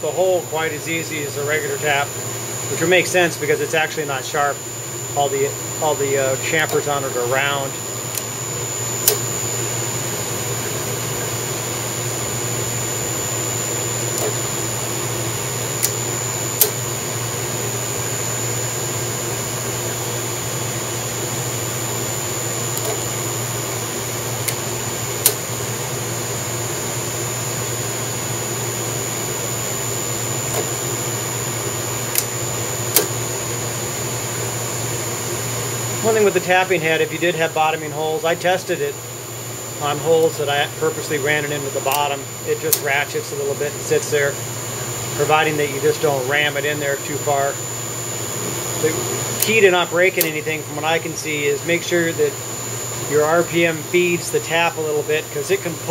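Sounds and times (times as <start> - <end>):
mill spindle hum with high whine: 0.0 - 55.9.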